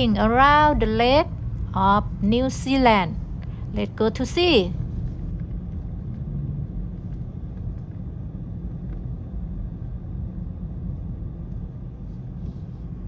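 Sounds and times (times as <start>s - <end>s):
car driving heard from inside: 0.0s - 13.0s.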